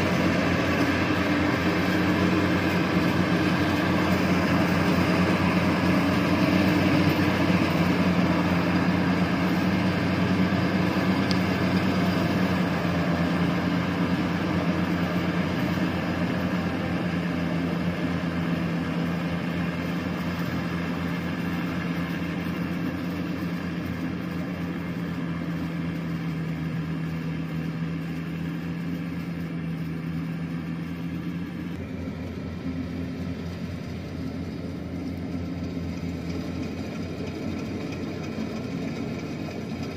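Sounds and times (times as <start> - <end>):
combine harvester diesel engine drone: 0.0 - 39.9
distant combine harvester working: 0.0 - 39.9
threshing machinery: 0.0 - 39.9.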